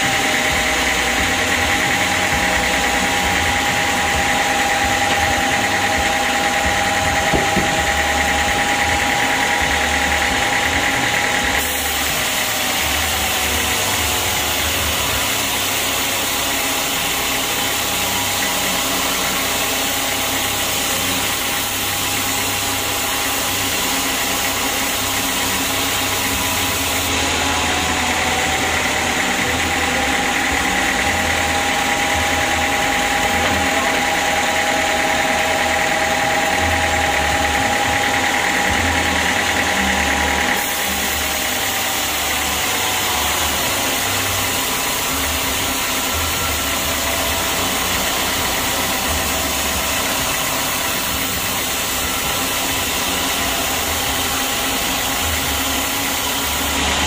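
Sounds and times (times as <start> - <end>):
band saw sawing log: 0.0 - 57.0.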